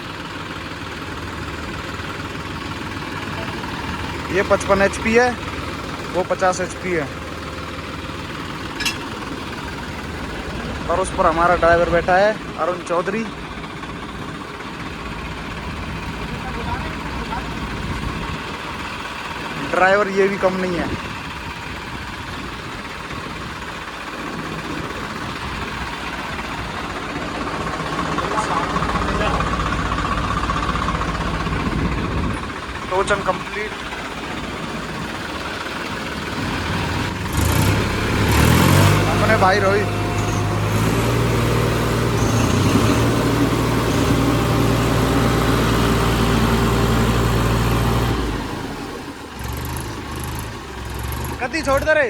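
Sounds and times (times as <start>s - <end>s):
diesel tractor engines under load: 0.0s - 52.0s.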